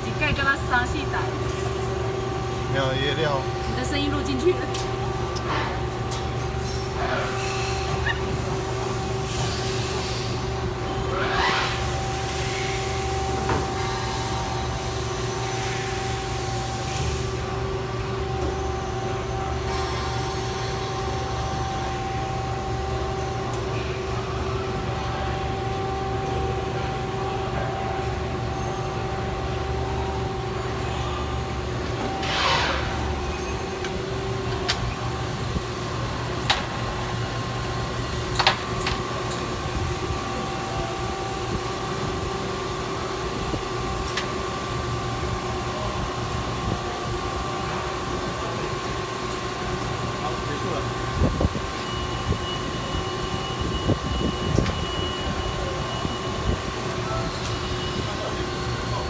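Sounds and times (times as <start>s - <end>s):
machine hum with held tones: 0.0s - 59.0s.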